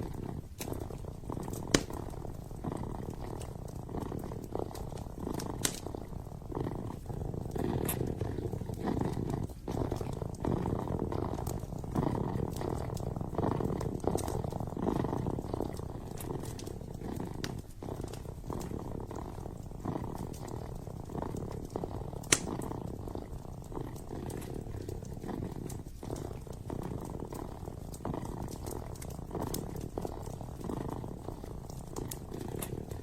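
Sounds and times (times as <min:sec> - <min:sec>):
kitten purring: 0:00.0 - 0:33.0
wood fire crackling: 0:00.0 - 0:33.0.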